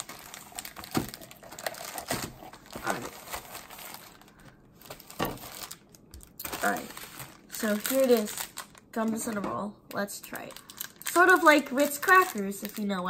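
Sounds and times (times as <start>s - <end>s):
packaging crinkling and rustling: 0.0s - 9.4s, 10.2s - 13.0s.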